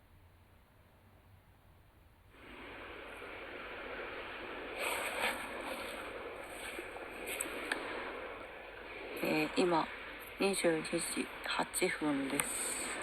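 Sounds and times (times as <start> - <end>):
waves breaking on shore: 2.3 - 13.0.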